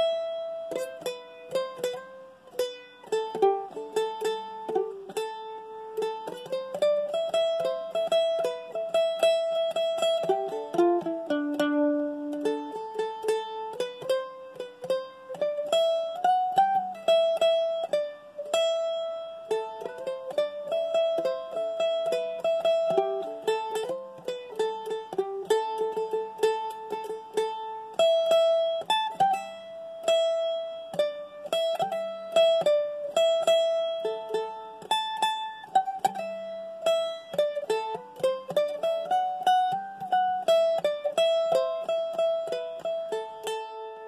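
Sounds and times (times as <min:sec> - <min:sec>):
solo mandolin melody: 0:00.0 - 0:44.0.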